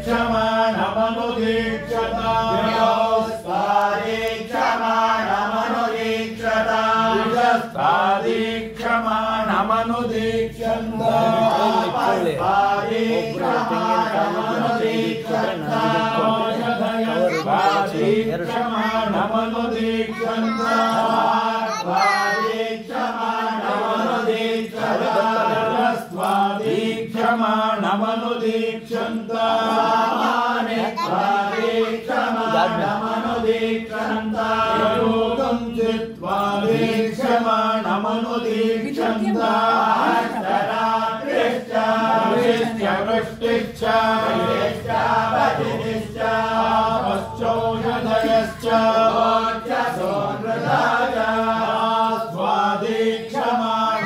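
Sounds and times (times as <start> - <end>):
voices chanting rhythmically: 0.0 - 54.0.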